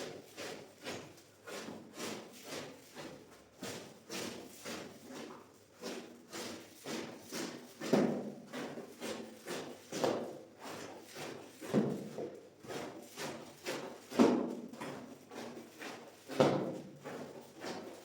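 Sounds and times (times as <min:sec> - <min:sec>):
wet scrubbing strokes on a rug: 0:00.0 - 0:18.0.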